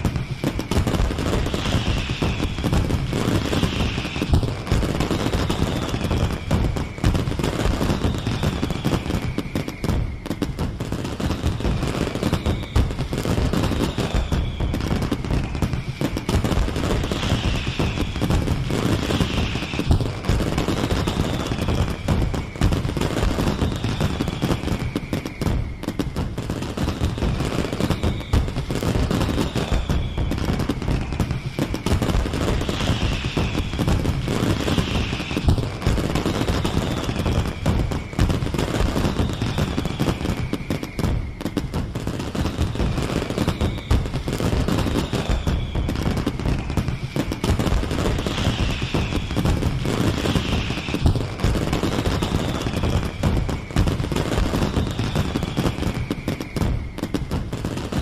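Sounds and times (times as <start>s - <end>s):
fireworks crackling bangs: 0.0s - 58.0s
high falling whistle: 0.0s - 58.0s.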